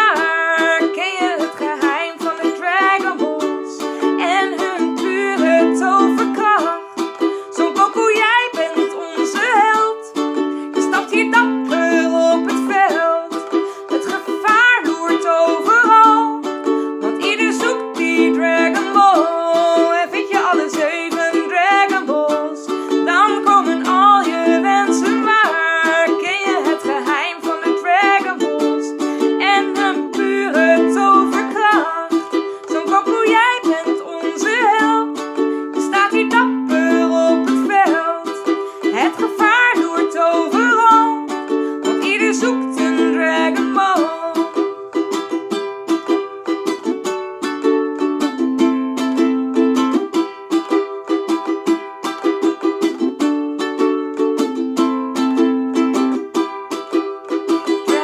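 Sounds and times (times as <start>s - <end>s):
woman singing: 0.0s - 47.0s, 57.4s - 58.0s
ukulele strumming: 0.0s - 58.0s.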